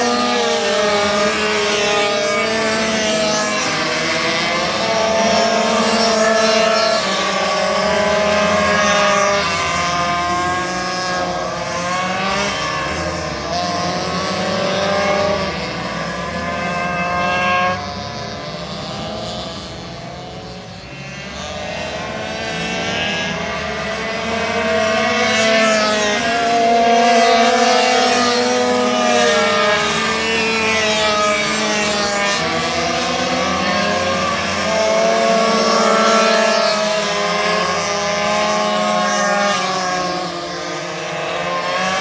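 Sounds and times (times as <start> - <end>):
minibike engines racing: 0.0 - 42.0.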